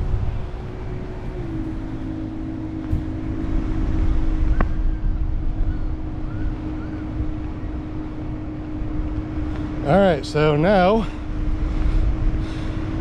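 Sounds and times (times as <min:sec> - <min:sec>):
engine drone: 0:00.0 - 0:13.0
wind buffeting microphone: 0:00.0 - 0:13.0.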